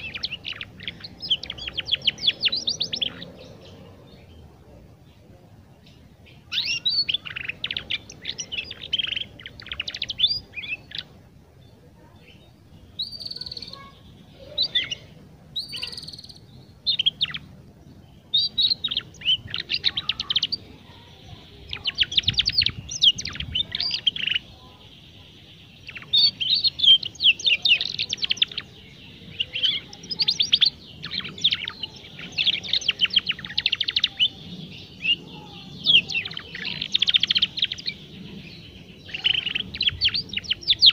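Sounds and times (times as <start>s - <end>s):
canary trilling song: 0.0s - 4.5s, 5.8s - 11.2s, 12.0s - 40.9s.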